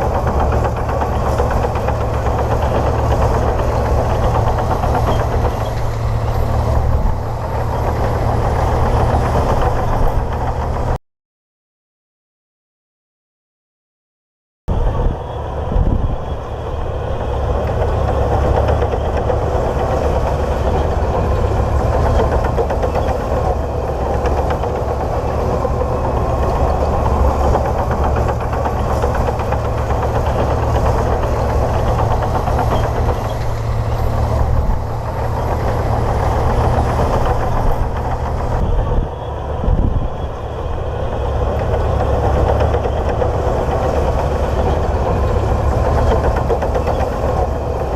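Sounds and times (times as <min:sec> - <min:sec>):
bulldozer diesel engine running: 0:00.0 - 0:11.0, 0:14.7 - 0:47.9.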